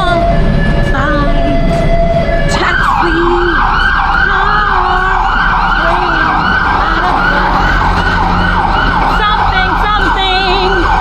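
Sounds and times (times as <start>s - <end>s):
siren in rapid yelp: 0.0s - 11.0s.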